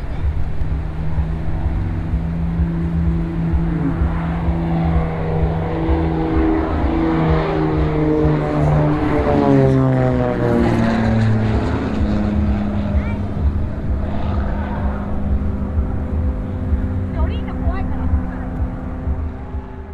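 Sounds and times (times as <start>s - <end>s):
plane propeller engine droning: 0.0s - 19.9s.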